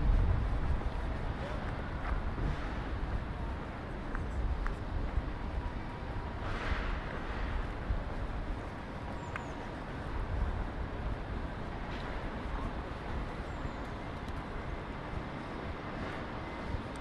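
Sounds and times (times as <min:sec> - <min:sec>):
traffic and street noise: 0:00.0 - 0:17.0.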